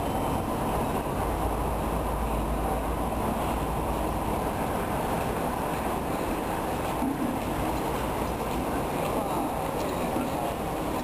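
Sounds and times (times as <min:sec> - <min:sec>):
railway platform ambience: 0:00.0 - 0:11.0.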